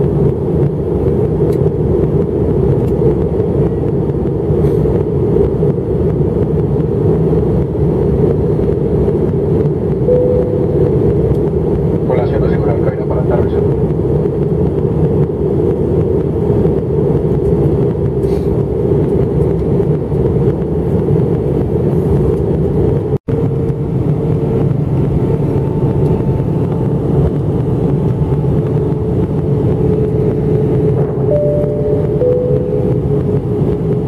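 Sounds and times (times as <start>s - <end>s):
airliner cabin engine rumble: 0.0s - 34.0s.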